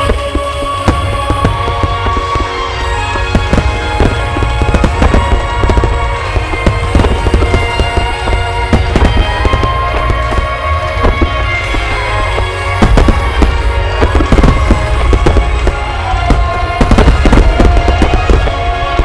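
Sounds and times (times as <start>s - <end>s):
deep continuous rumble: 0.0s - 19.0s
fireworks bursting and crackling: 0.0s - 19.0s
music over loudspeakers: 0.0s - 19.0s.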